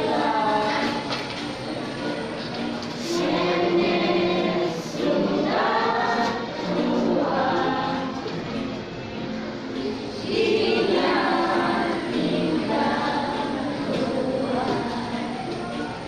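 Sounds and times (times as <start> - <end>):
group singing over music: 0.0 - 8.8, 9.8 - 16.0.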